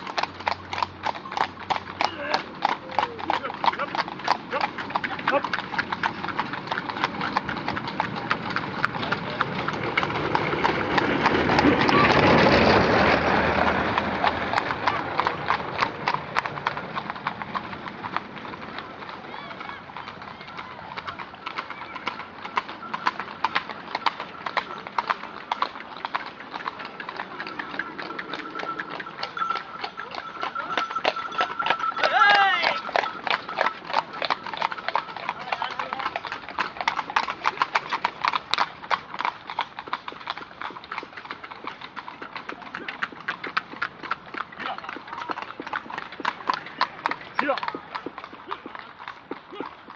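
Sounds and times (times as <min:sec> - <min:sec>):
horse hooves clip-clopping: 0:00.0 - 0:49.9.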